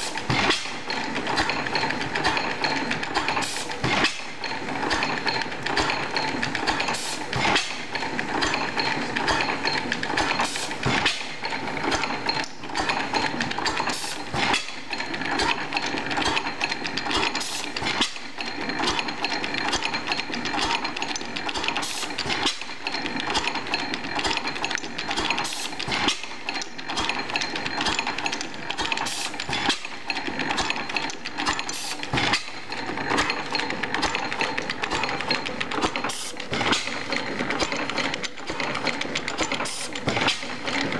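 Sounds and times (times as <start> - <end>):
fast clatter of valve gear: 0.0 - 40.9.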